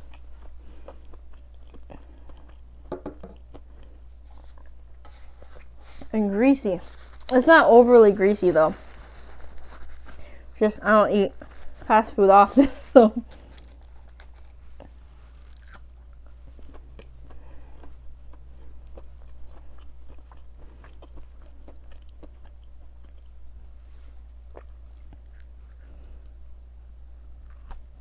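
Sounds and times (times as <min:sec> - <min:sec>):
chewing crispy nuggets: 0:00.0 - 0:28.0.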